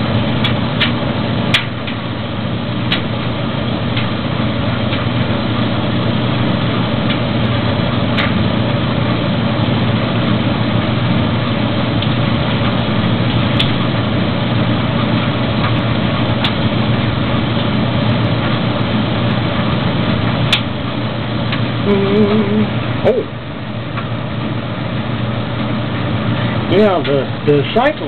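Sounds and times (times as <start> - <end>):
gas dryer humming: 0.0 - 28.0.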